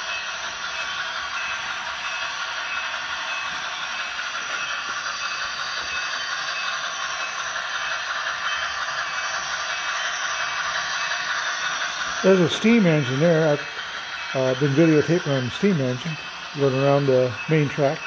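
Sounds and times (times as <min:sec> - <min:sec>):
model train wheels rattling on rails: 0:00.0 - 0:18.0.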